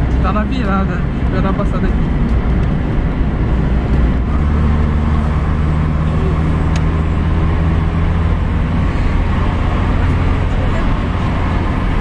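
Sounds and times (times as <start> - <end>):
car engine running: 0.0 - 12.0
road noise: 0.0 - 12.0.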